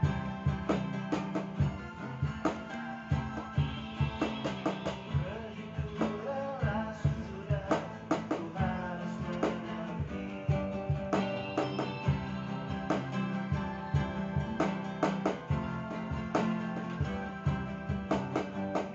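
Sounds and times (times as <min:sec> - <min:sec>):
acoustic guitar strumming chords: 0:00.0 - 0:18.9.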